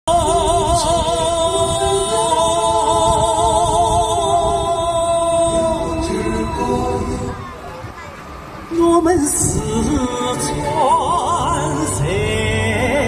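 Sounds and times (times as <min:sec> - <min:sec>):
person singing with vibrato: 0:00.0 - 0:07.6, 0:08.7 - 0:13.0
wind buffeting microphone: 0:00.1 - 0:12.4.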